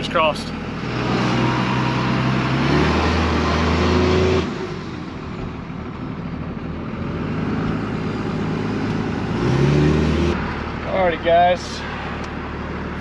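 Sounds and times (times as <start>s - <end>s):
diesel truck engine: 0.0s - 13.0s.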